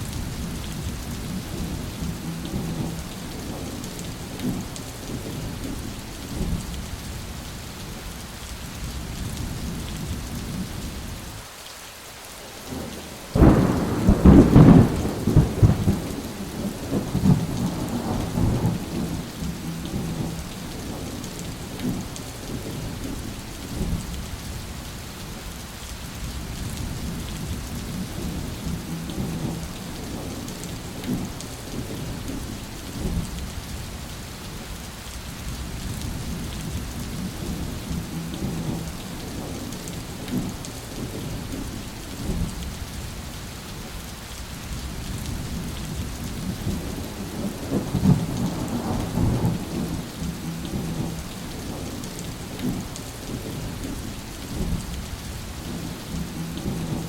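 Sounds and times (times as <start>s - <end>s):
low rolling thunder: 0.0s - 7.1s, 12.7s - 24.6s, 26.2s - 33.8s, 35.6s - 43.0s, 44.9s - 57.0s
steady rain falling: 0.0s - 57.0s.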